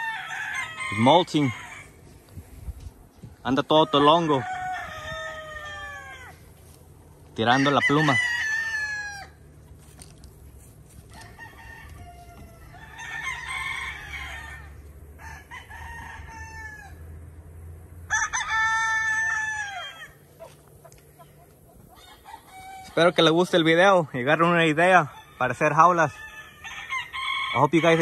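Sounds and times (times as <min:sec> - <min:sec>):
distant roosters crowing: 0:00.0 - 0:28.0.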